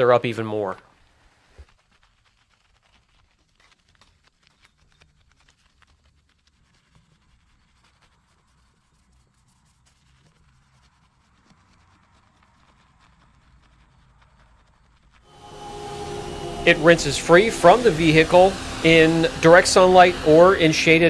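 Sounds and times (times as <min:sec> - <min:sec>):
brush bristles scrubbing foam: 0:01.1 - 0:21.0.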